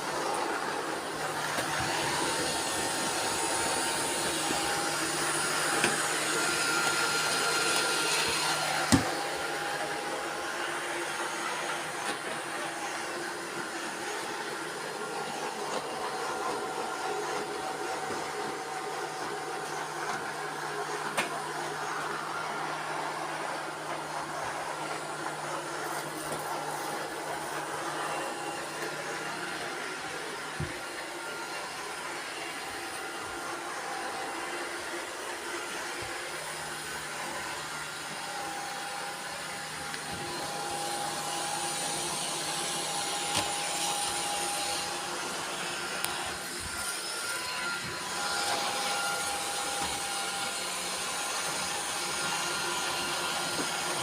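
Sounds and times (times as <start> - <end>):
robot vacuum cleaners whirring: 0.0 - 54.0.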